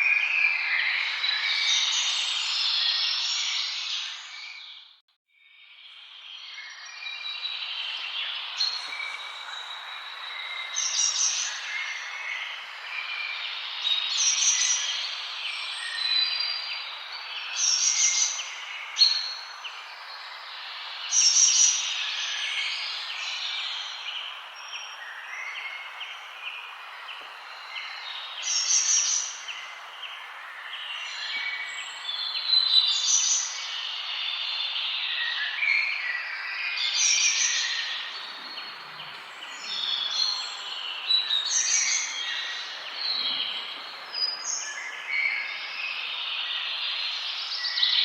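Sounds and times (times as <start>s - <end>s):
songbirds singing and chirping: 0.0s - 48.0s
loud high bird song phrase: 5.9s - 48.0s
steady background hiss: 7.5s - 48.0s.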